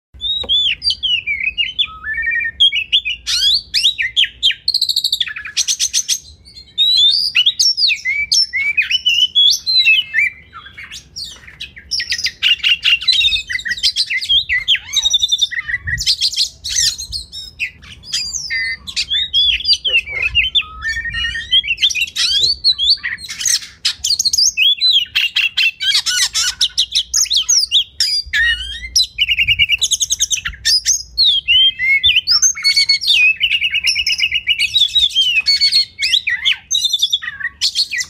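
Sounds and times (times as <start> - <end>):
bird singing whistled notes: 0.2 - 38.0.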